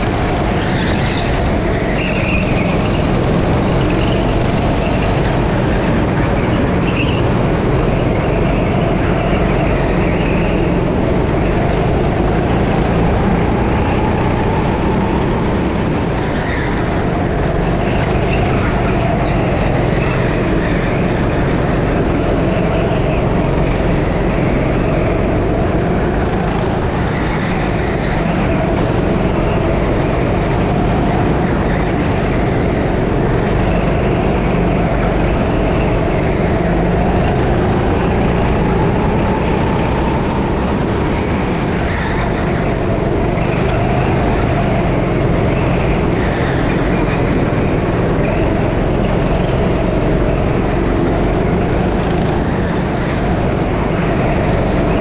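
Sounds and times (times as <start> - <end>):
go-kart engine racing: 0.0 - 55.0.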